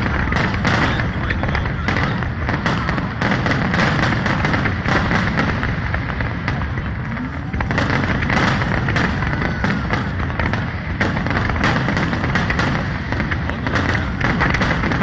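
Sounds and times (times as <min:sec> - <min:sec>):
continuous rumble: 0:00.0 - 0:15.0
fireworks bangs and crackles: 0:00.0 - 0:15.0.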